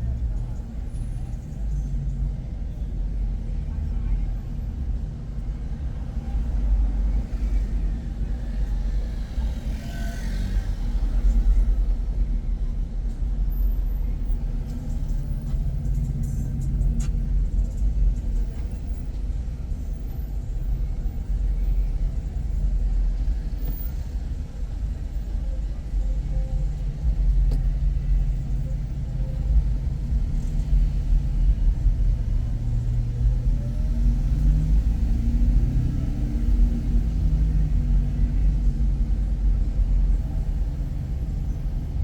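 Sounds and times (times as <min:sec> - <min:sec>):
car engine rumble: 0:00.0 - 0:42.0.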